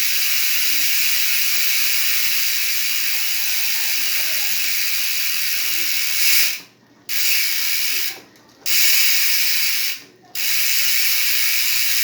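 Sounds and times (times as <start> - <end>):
bicycle hub ratchet buzzing: 0.0 - 12.0.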